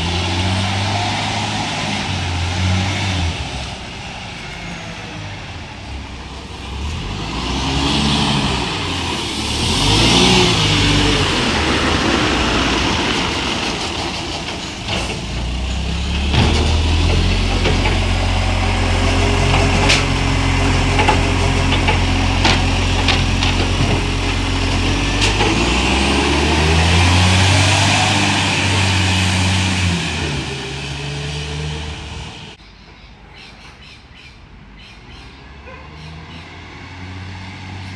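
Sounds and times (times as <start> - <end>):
diesel engine revving: 0.0 - 32.6, 35.5 - 37.9.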